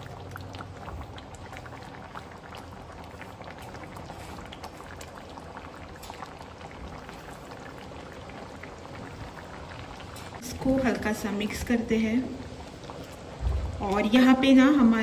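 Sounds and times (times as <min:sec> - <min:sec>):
gravy bubbling in a frying pan: 0:00.0 - 0:15.0.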